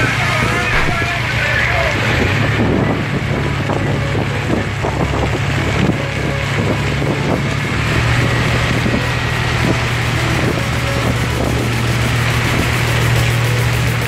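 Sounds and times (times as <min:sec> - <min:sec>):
steady low drone: 0:00.0 - 0:14.0
wind noise on microphone: 0:00.0 - 0:14.0.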